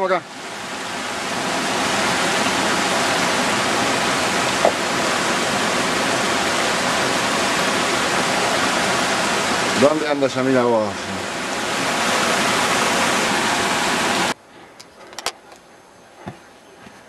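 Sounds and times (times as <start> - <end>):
stream rushing over boulders: 0.0 - 14.4.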